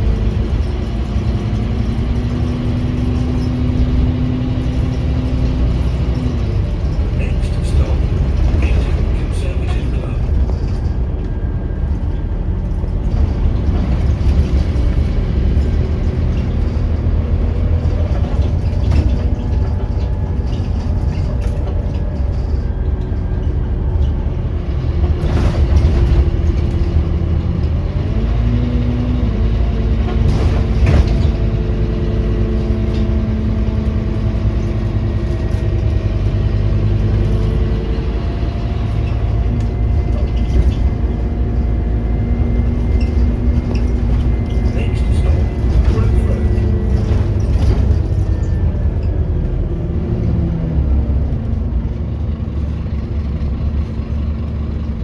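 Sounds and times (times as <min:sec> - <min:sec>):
bus body knocks and rattles: 0:00.0 - 0:55.0
bus engine rumbling: 0:00.0 - 0:55.0.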